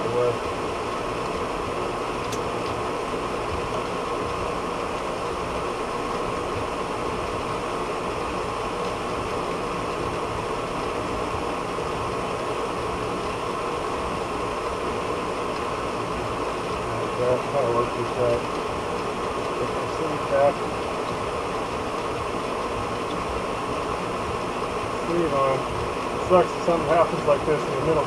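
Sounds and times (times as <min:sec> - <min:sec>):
steady machine hum and hiss: 0:00.0 - 0:28.0.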